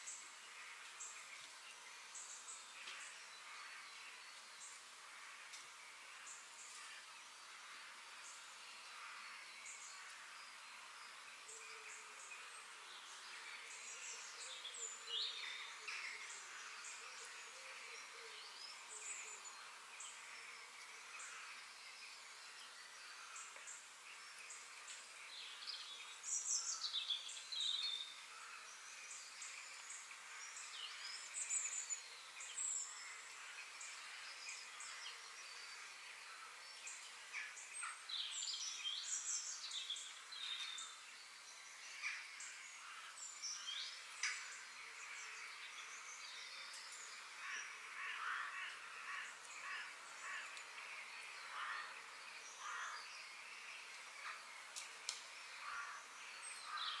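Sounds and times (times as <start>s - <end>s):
small birds chirping and singing: 0.0s - 57.0s.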